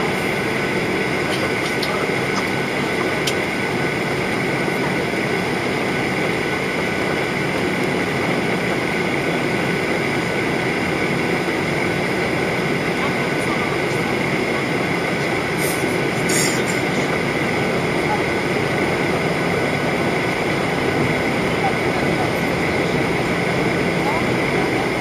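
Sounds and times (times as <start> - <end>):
airplane cabin engine drone: 0.0 - 25.0
rushing airflow: 0.0 - 25.0.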